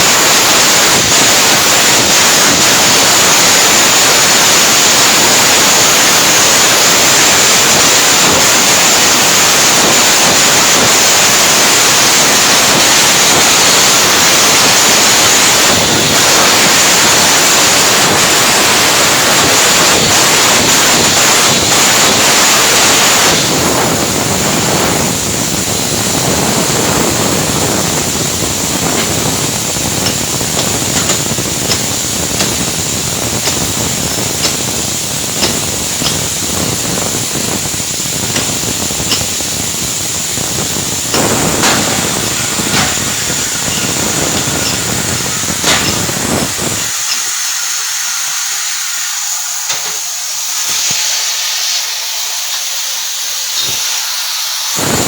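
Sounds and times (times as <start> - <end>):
welding arc crackling: 0.0 - 55.0.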